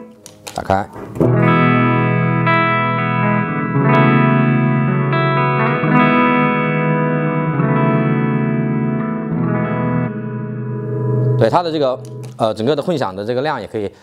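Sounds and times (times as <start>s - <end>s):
electric guitar chords with reverb: 1.0s - 13.1s.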